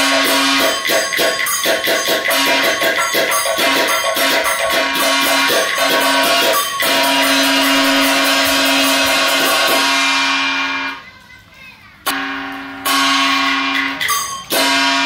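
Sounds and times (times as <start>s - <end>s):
held pitched note: 0.0s - 11.0s, 12.1s - 15.0s
percussion strikes: 0.0s - 11.1s, 12.0s - 15.0s.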